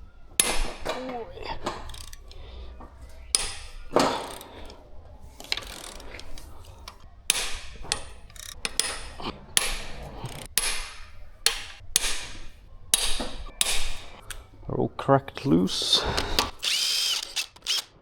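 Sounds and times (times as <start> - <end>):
metal scraping: 0.0 - 17.9
bolts cracking loose: 0.0 - 18.0.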